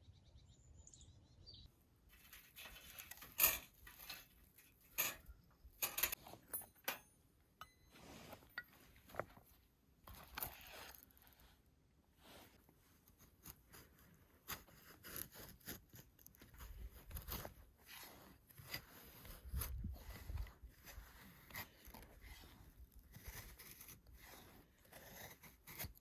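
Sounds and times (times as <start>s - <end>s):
faint scraping and rustling: 2.0s - 7.0s, 7.8s - 25.8s.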